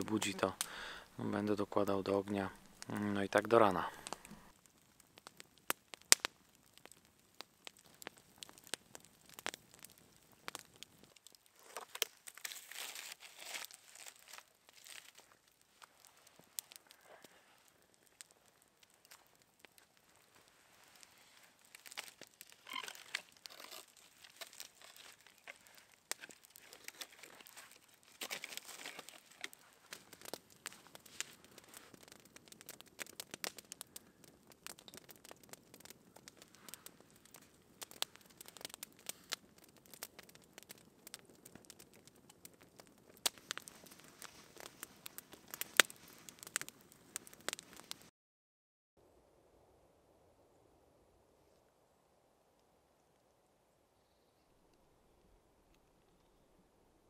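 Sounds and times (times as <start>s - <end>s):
campfire crackling and popping: 0.0s - 48.1s.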